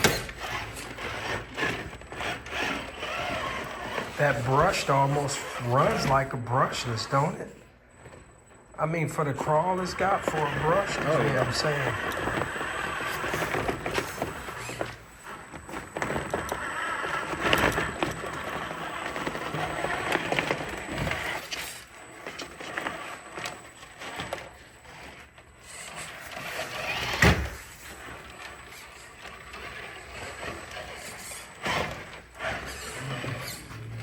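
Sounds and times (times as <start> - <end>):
electric motor whining: 0.0 - 7.4, 9.5 - 24.4, 25.0 - 34.0.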